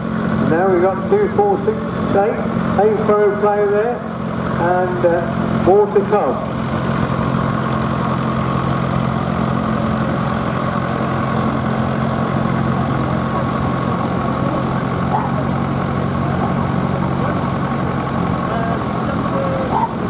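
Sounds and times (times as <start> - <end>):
tractor engines running: 0.0 - 20.0
murmur of voices: 0.3 - 20.0.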